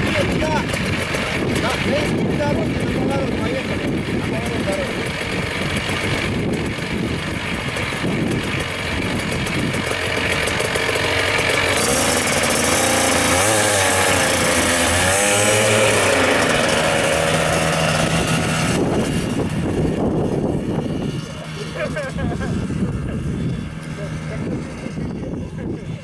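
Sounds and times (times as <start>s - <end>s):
small petrol engine revving: 0.0s - 26.0s.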